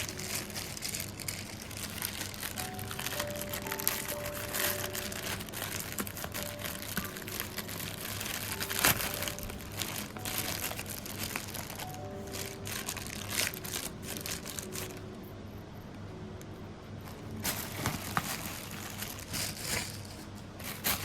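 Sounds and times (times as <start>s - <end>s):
crinkling and rustling handling: 0.0s - 21.0s
soft background music: 0.0s - 21.0s.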